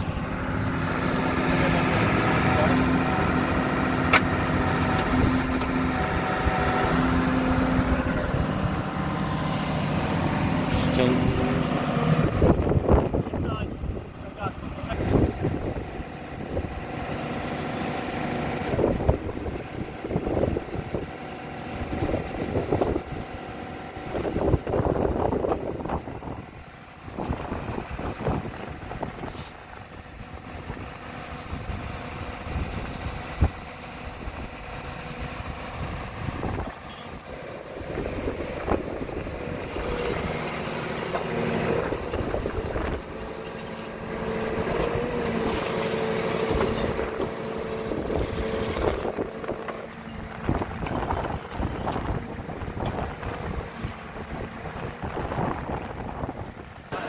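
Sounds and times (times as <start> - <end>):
drill rig engine running: 0.0 - 57.0.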